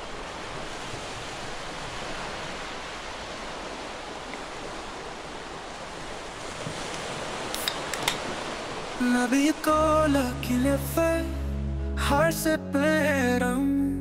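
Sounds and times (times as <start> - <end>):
ocean surf rushing: 0.0 - 11.4.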